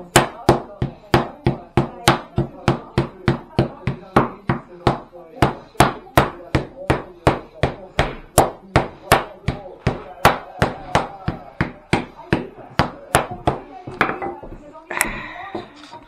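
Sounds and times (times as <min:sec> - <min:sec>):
rolling pin beating dough on table: 0:00.0 - 0:14.7.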